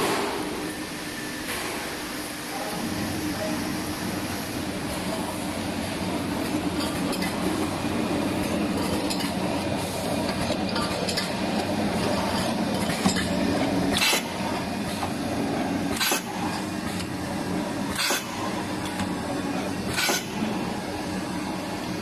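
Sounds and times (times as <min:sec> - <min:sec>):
seaming machine humming: 0:02.2 - 0:22.0.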